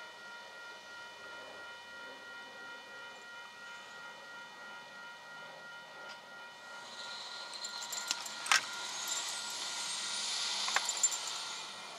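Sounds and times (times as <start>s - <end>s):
railroad crossing bell ringing: 0.0s - 11.9s.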